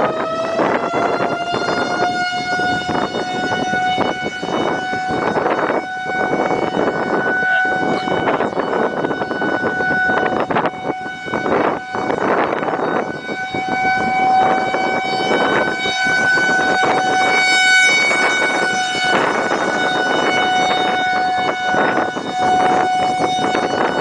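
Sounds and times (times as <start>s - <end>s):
heavy rushing wind: 0.0s - 24.0s
warning siren: 0.0s - 24.0s.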